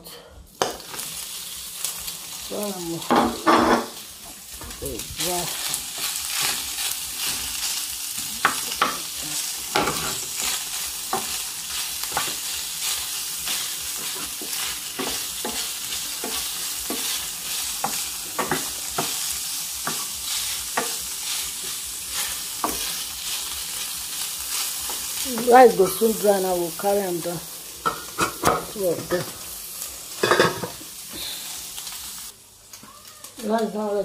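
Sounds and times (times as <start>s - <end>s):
meat sizzling in a frying pan: 0.5s - 34.0s.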